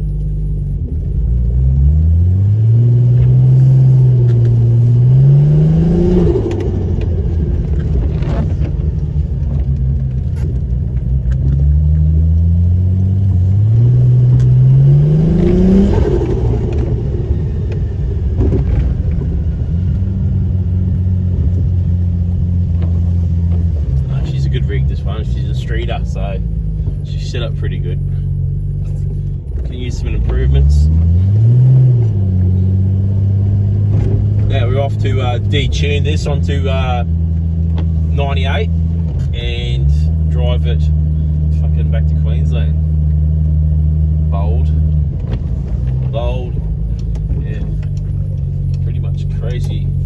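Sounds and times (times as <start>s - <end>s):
turbo car engine accelerating hard: 0.0s - 50.0s.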